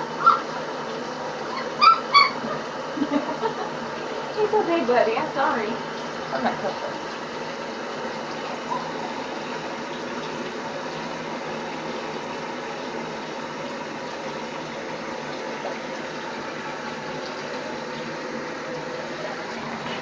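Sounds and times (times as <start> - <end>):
faucet running into bathtub: 0.0 - 20.0.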